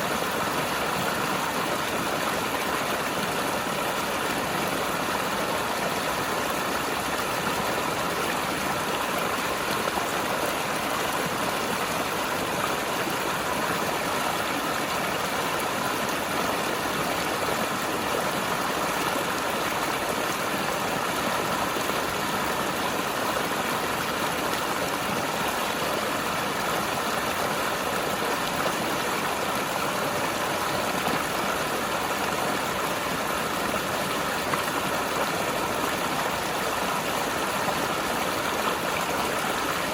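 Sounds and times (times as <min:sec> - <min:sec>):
river running over rocks: 0:00.0 - 0:39.9.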